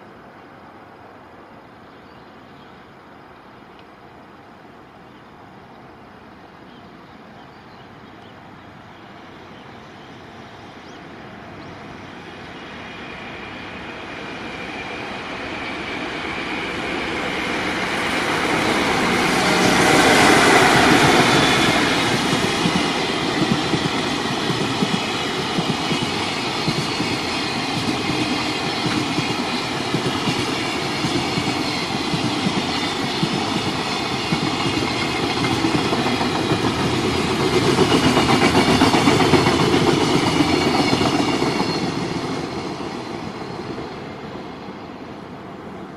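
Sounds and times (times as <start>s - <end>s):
freight train passing: 8.4s - 45.9s.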